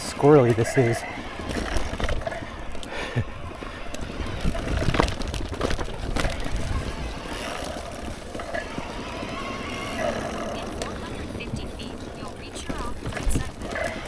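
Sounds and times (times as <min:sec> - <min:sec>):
bike knocking over rocks: 0:00.0 - 0:14.0
mountain bike rattling: 0:00.0 - 0:14.0
tyre and wind rumble: 0:00.0 - 0:14.0.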